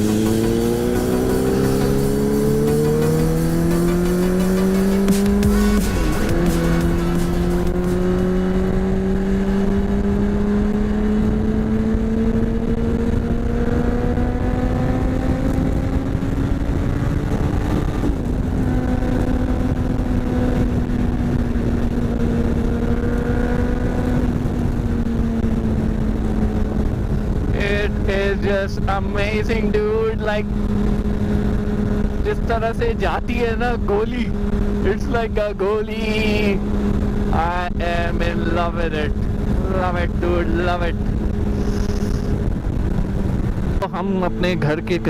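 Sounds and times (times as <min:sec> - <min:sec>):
motorcycle engine accelerating: 0:00.0 - 0:45.0
wind rush: 0:00.0 - 0:45.0.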